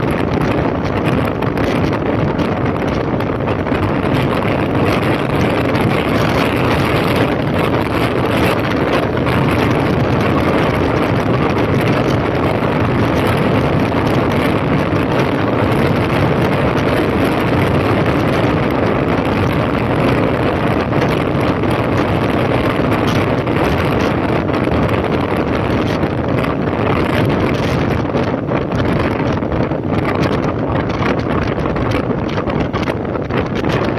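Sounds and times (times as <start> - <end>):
motorcycle engine running: 0.0 - 33.9
wind rush on microphone: 0.0 - 33.9.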